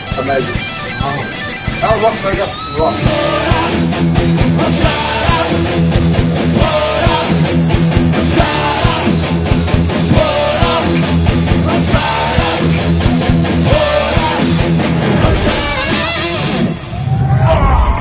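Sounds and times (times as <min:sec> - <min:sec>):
steady drum beat: 0:00.0 - 0:16.6
distorted electric guitar: 0:00.0 - 0:18.0.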